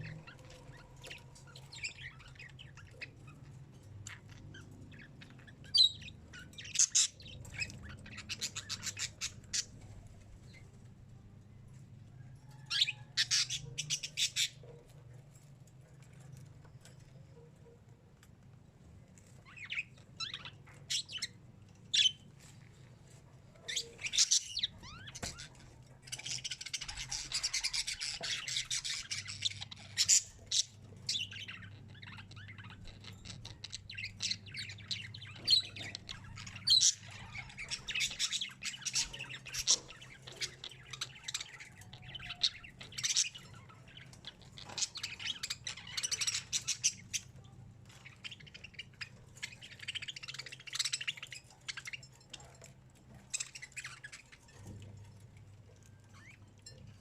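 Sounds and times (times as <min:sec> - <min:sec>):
parakeets chattering: 0:00.0 - 0:10.7, 0:12.6 - 0:14.9, 0:19.4 - 0:22.3, 0:23.4 - 0:57.0.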